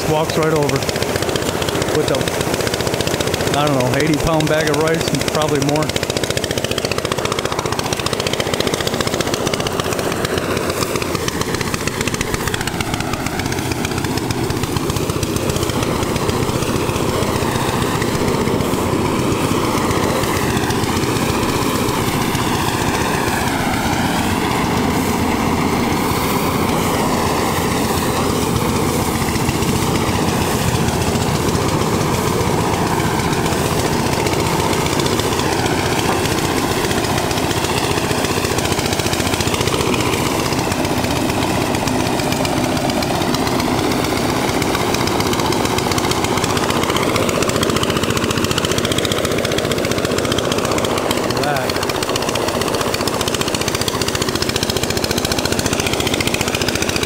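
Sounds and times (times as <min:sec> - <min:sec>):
rice thresher droning: 0:00.0 - 0:57.0.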